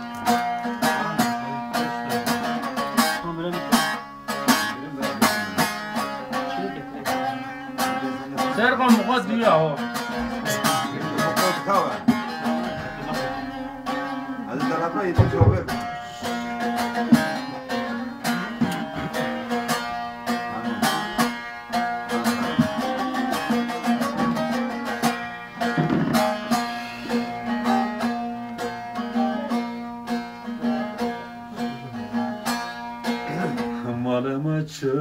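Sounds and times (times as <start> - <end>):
plucked long-necked lute: 0.0 - 35.0.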